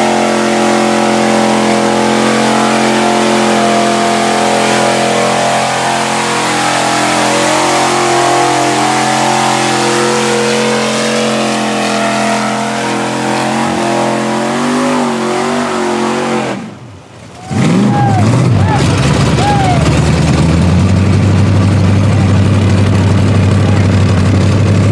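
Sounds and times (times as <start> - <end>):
pickup truck engine revving: 0.0 - 24.9
tyres churning through mud: 0.0 - 24.9.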